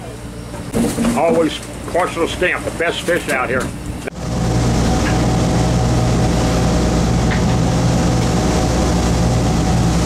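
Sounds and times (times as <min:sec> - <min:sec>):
boat engine humming: 0:00.0 - 0:10.0
rough water along hull: 0:00.6 - 0:10.0.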